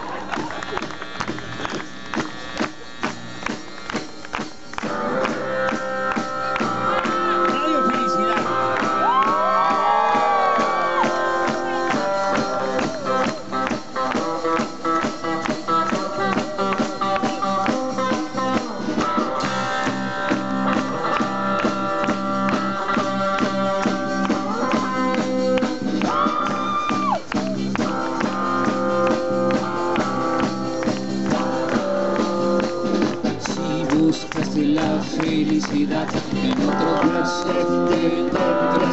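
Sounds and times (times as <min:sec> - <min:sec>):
electric and acoustic guitars: 0:00.0 - 0:38.9
steady drum beat: 0:00.0 - 0:38.9.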